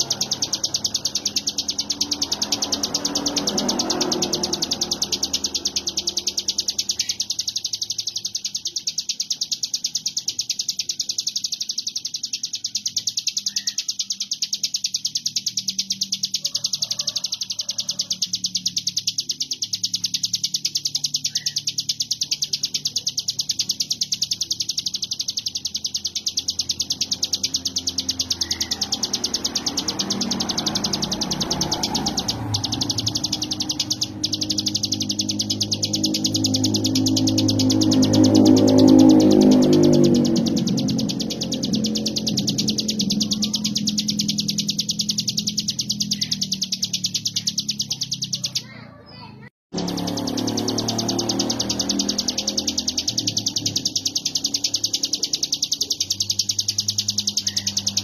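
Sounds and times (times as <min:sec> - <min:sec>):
bird singing a rapid rattling trill: 0:00.0 - 0:58.0.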